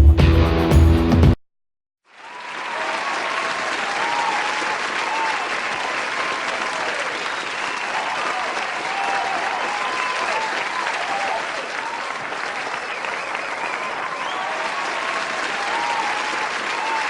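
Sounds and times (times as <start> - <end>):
cheers and whistles: 2.1 - 17.0
large audience applauding: 2.1 - 17.0.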